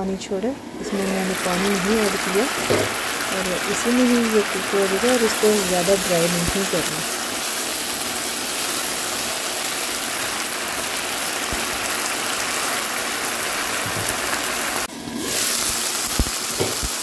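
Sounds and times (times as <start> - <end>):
chicken sizzling in a pan: 0.8 - 17.0.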